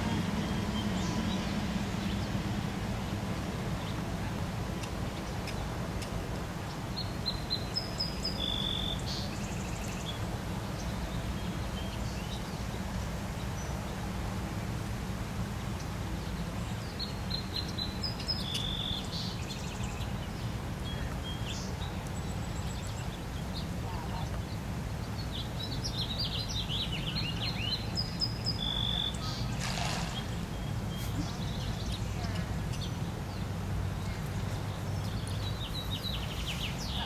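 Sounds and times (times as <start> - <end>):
songbird chirping: 0.0 - 14.1, 15.5 - 37.0.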